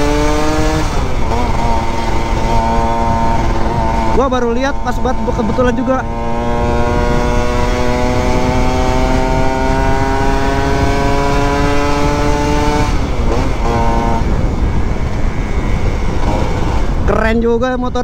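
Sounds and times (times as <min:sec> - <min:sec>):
two-stroke motorcycle engine: 0:00.0 - 0:17.0
wind on microphone: 0:00.0 - 0:18.0.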